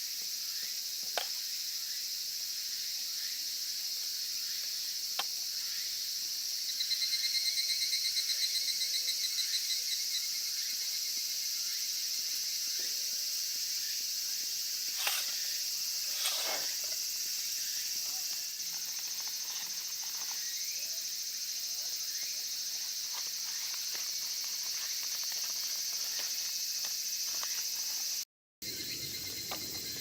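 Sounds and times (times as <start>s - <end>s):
insects chorus: 0.0s - 30.0s.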